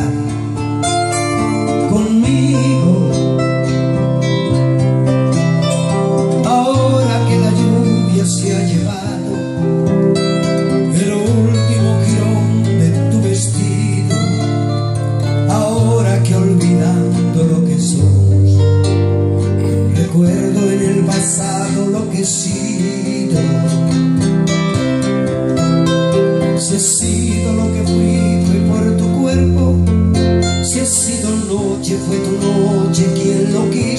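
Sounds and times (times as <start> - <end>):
man singing: 0.0 - 4.6, 5.6 - 18.9, 19.6 - 24.3, 26.4 - 33.9
classical guitar playing: 0.0 - 33.9.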